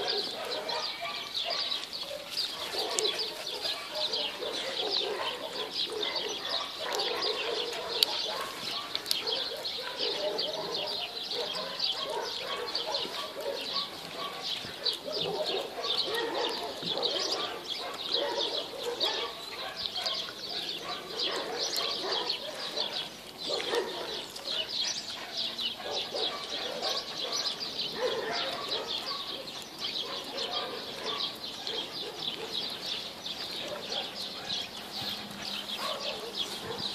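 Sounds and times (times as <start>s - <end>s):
birds chirping quickly: 0.0s - 36.9s.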